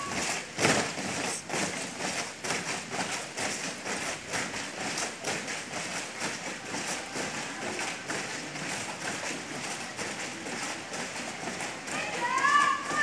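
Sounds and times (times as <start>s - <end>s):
boots marching on wet concrete: 0.0s - 13.0s.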